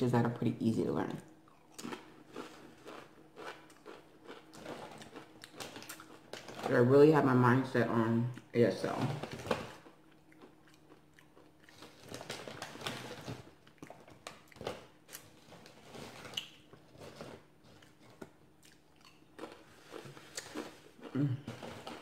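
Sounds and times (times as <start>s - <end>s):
chewing crunchy chips: 1.4s - 6.8s, 9.2s - 22.0s.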